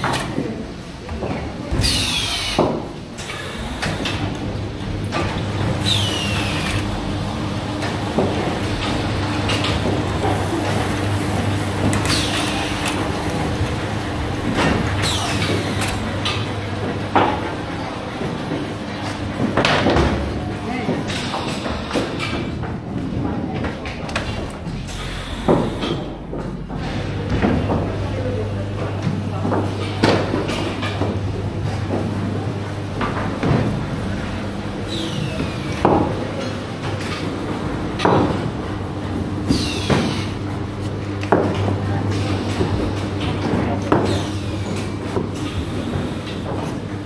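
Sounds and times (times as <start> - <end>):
machine motor hum: 0.0 - 47.0.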